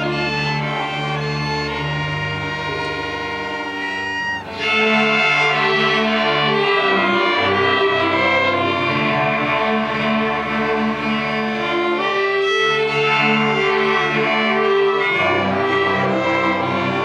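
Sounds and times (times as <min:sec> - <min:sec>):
string orchestra bowed notes: 0:00.0 - 0:17.0.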